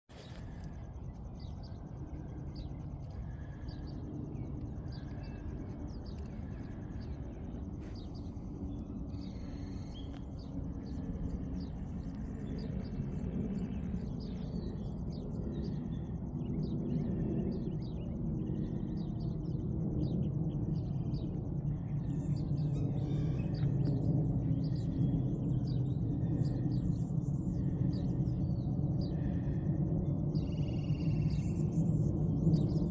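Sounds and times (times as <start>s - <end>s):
small birds chirping: 0.0s - 19.6s, 20.7s - 32.9s
low background rumble: 0.1s - 32.9s.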